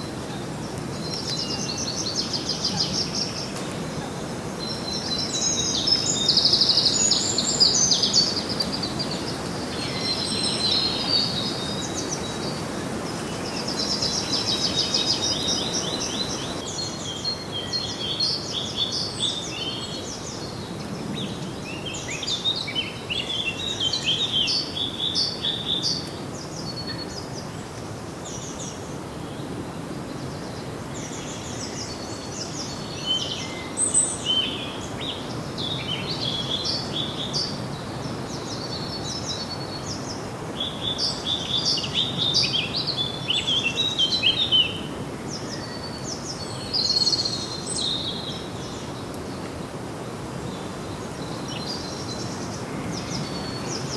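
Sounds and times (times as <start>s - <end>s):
songbirds singing and chirping: 0.0s - 53.9s
steady outdoor hiss: 0.0s - 53.9s.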